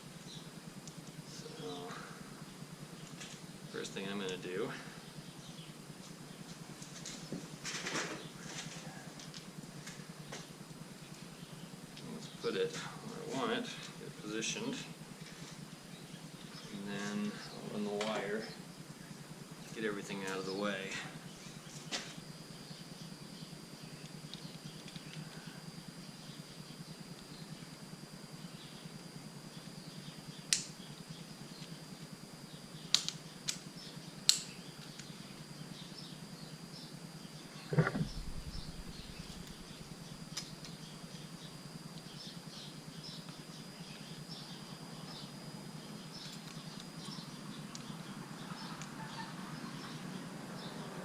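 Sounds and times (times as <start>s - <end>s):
faint high whine: 0.0s - 51.0s.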